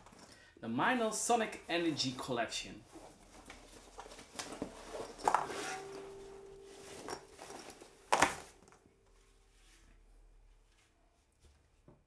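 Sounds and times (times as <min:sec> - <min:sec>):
fabric rustling: 0:01.3 - 0:11.8.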